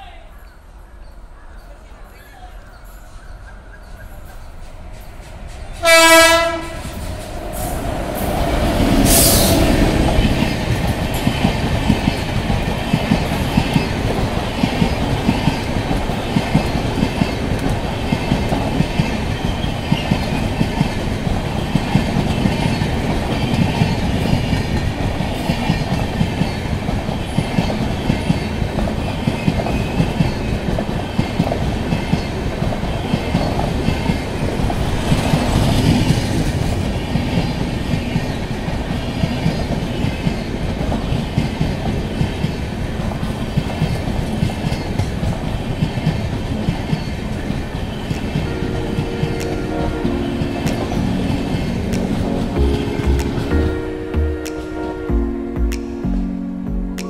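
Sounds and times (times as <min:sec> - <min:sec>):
train rumble: 0:01.3 - 0:57.0
train wheels clicking on rail joints: 0:02.8 - 0:49.6.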